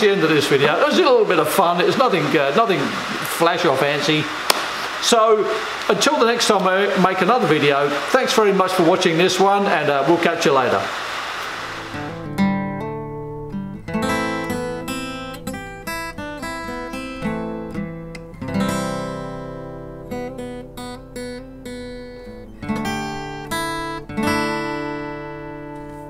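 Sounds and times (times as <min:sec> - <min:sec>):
acoustic guitar picking and strumming: 0:00.0 - 0:10.2, 0:11.0 - 0:26.0.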